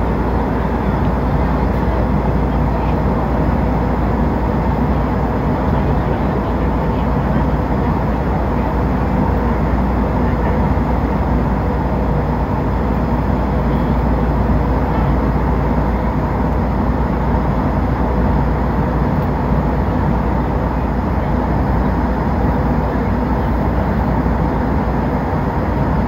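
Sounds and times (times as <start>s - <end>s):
airliner cabin engine rush: 0.0s - 26.0s.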